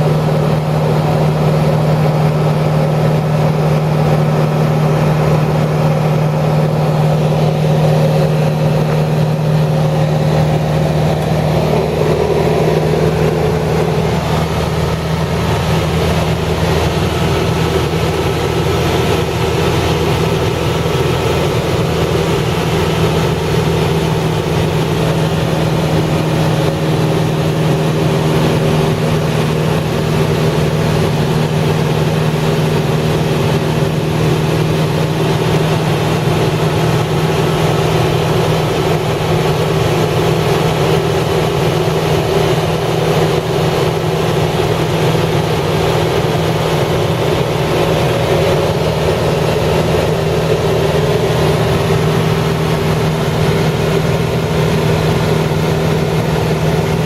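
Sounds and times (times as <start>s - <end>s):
steady mechanical drone: 0.0s - 57.0s.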